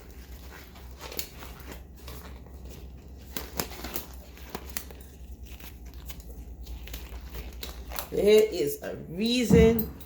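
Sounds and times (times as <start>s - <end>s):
gloves rustling and clicking: 0.0s - 10.0s.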